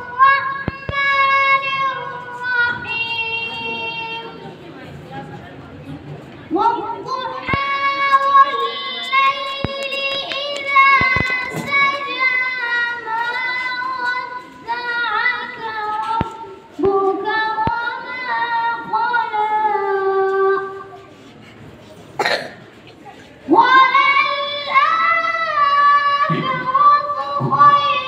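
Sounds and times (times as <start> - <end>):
boy singing into microphone: 0.0 - 4.5, 6.5 - 21.3, 23.5 - 28.0.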